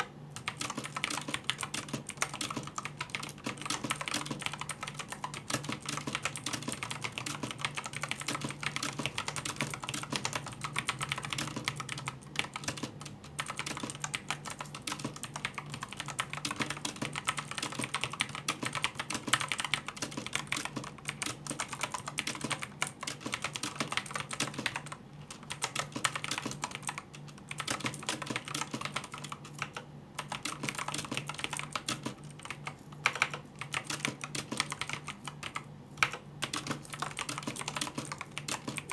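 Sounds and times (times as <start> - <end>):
fast typing on clicky keyboard: 0.0 - 38.9.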